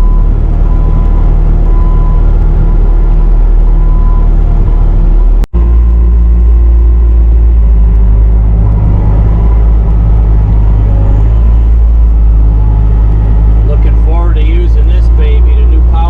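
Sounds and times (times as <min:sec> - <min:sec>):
diesel engine loud low drone: 0:00.0 - 0:16.0.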